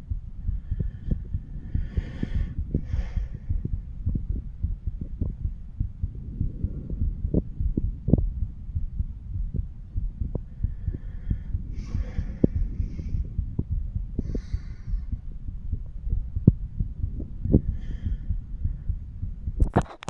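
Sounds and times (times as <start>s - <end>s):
constant low rumble: 0.0s - 20.0s
heartbeat thumps: 0.0s - 20.0s.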